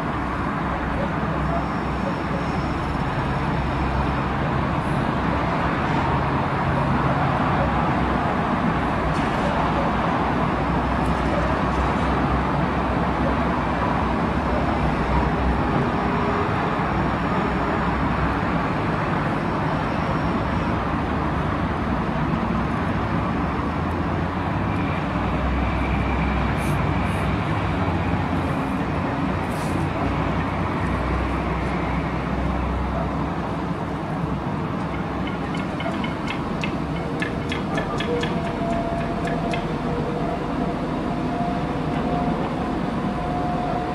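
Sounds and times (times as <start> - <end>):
traffic rumble: 0.0 - 43.9.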